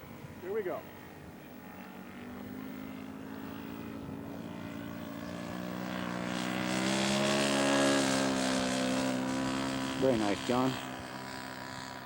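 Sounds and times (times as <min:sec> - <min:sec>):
model airplane engine at high power: 0:00.0 - 0:12.0.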